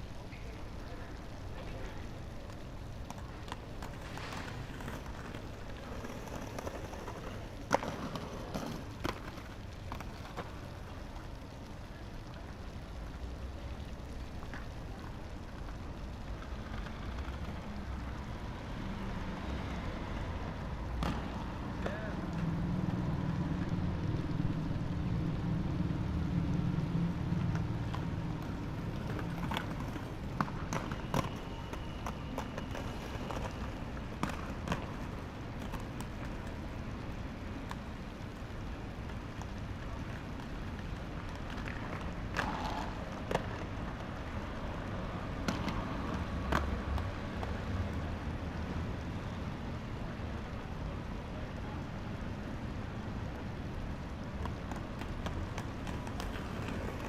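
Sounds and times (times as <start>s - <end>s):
skateboards clacking on ground: 0.0s - 24.7s, 25.8s - 49.4s, 51.4s - 57.0s
skateboard wheels rolling on concrete: 0.0s - 57.0s.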